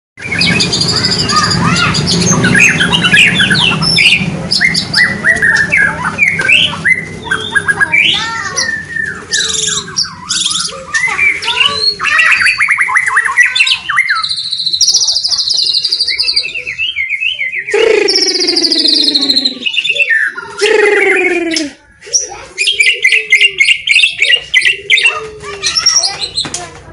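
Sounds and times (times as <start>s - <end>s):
buzzy bird trill: 0.2s - 26.3s
bird singing whistles and trills: 0.2s - 26.4s
harsh falling bird calls: 0.2s - 26.5s.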